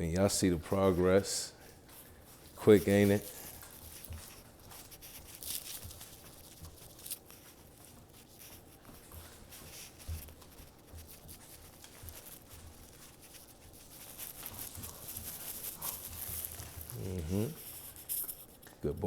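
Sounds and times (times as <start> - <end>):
puppy scuffling with toy: 0.3 - 18.6.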